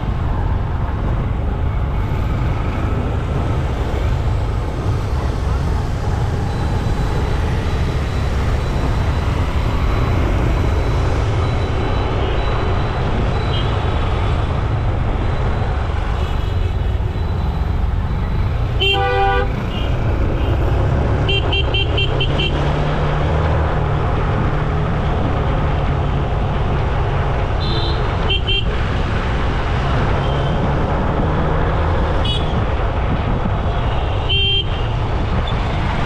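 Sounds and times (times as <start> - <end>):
road and wind rumble: 0.0 - 36.0.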